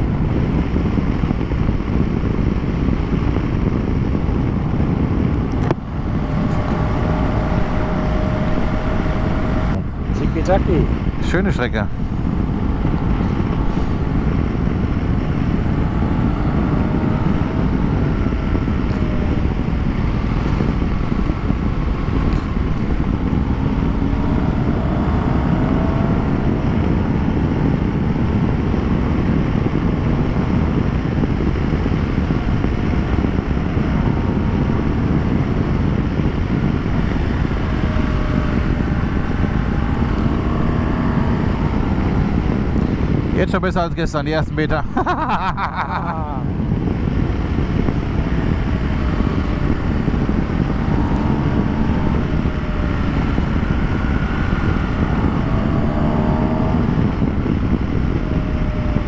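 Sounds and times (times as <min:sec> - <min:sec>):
motorcycle engine rumble: 0:00.0 - 0:59.0
wind and road noise: 0:00.0 - 0:59.0.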